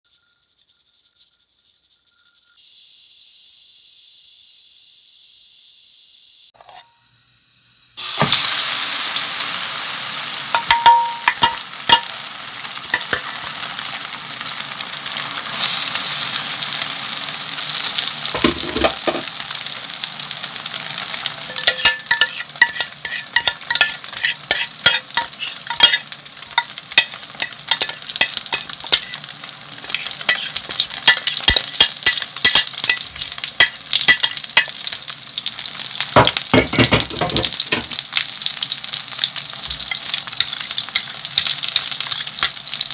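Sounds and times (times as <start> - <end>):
oil sizzling in a frying pan: 2.4 - 42.9.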